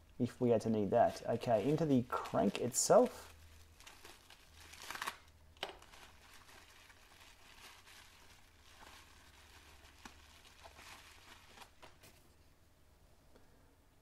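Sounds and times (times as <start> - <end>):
bubble wrap rustling and crinkling: 0.8 - 12.4.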